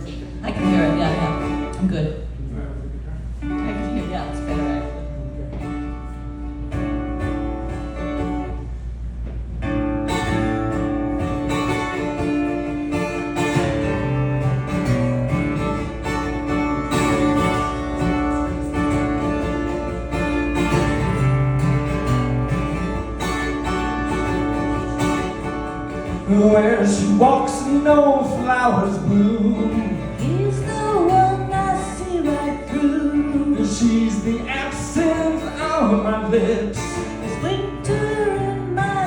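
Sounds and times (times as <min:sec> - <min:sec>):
acoustic guitar playing: 0:00.0 - 0:39.0.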